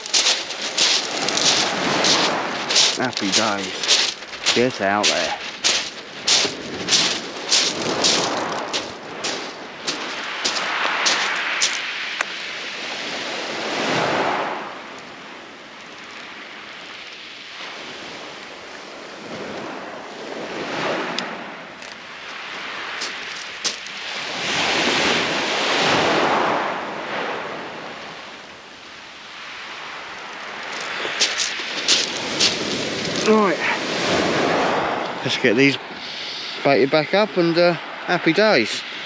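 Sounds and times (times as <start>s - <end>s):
waves washing onto shingle: 0.0s - 39.0s.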